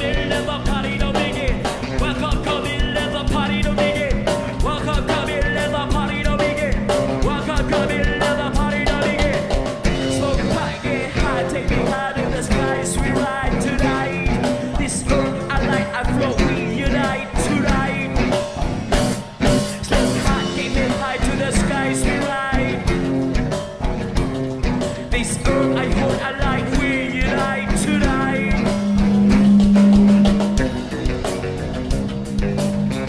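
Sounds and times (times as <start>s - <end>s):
upbeat rock song: 0.0s - 33.0s.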